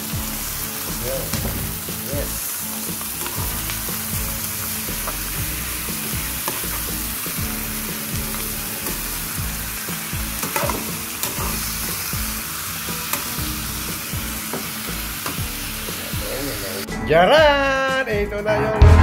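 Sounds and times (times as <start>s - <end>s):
meat sizzling in a frying pan: 0.0s - 16.9s.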